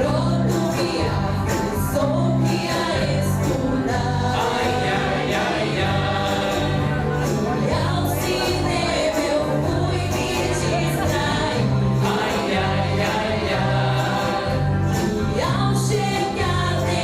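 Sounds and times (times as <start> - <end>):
group of voices singing: 0.0 - 17.0
instrumental accompaniment with bass: 0.0 - 17.0.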